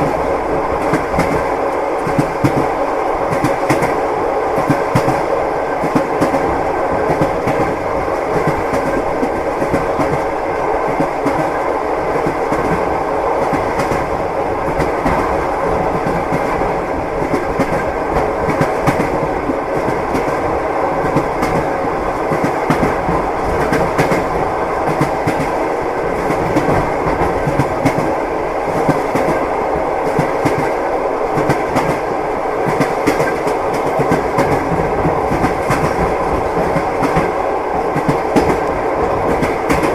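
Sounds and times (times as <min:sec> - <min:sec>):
rumble of moving train: 0:00.0 - 0:39.9
train wheels clacking: 0:00.0 - 0:39.9.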